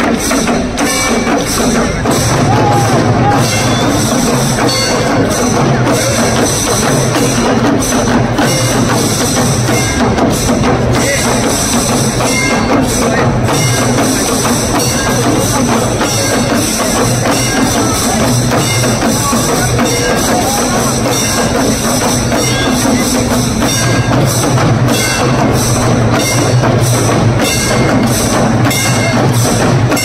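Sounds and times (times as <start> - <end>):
drums and percussion playing: 0.0 - 30.0
voices: 0.0 - 30.0.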